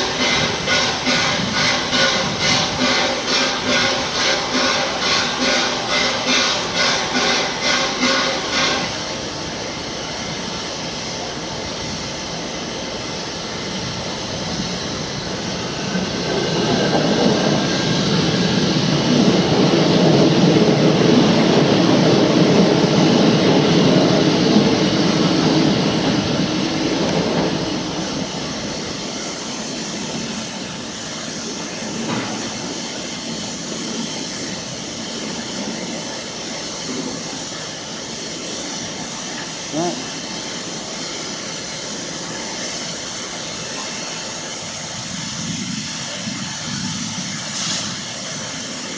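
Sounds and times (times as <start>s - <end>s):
steam hissing from locomotive: 0.0s - 48.9s
train passing: 0.0s - 48.9s.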